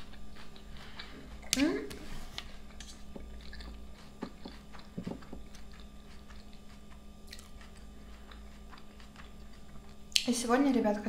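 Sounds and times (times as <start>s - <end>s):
person chewing salad: 0.0s - 10.2s.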